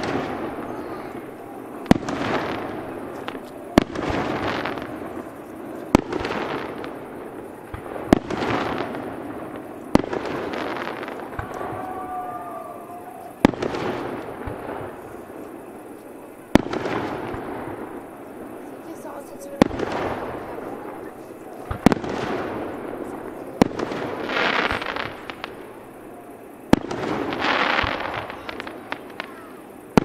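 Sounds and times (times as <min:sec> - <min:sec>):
firework bangs with echo: 0:00.0 - 0:30.0.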